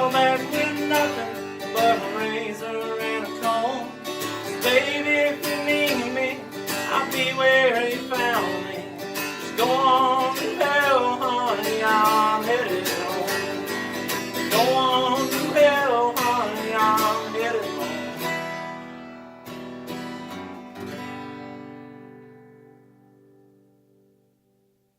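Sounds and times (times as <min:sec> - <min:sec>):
strummed acoustic guitar: 0:00.0 - 0:24.6.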